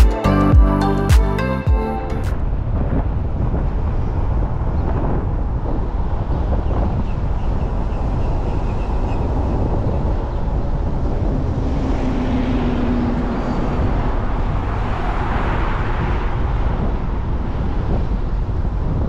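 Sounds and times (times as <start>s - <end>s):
car road and wind noise: 1.5s - 19.0s.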